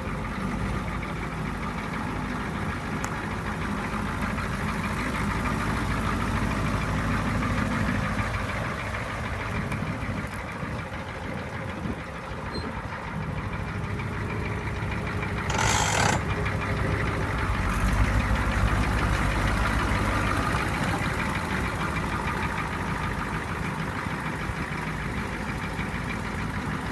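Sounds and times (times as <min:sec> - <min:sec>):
truck engine idling: 0:00.0 - 0:26.9.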